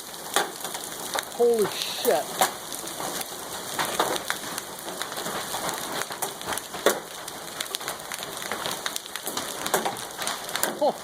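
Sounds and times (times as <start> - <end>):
hailstones clattering: 0.0 - 11.0.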